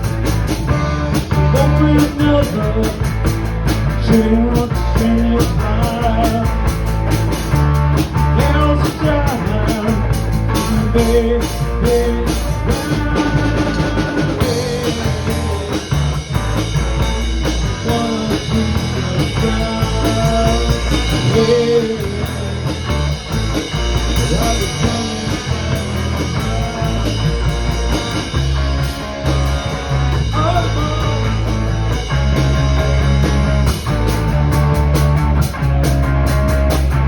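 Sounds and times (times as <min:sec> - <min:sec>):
rock band music: 0:00.0 - 0:37.0.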